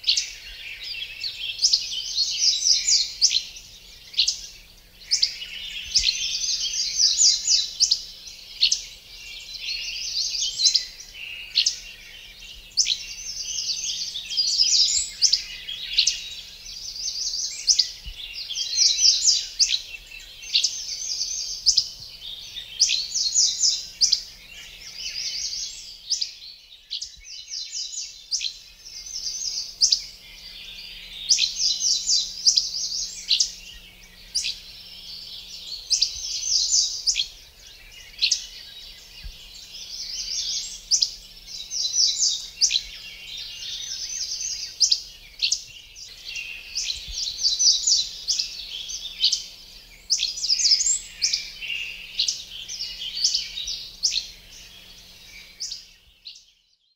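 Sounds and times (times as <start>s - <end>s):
songbirds trilling: 0.0s - 56.9s.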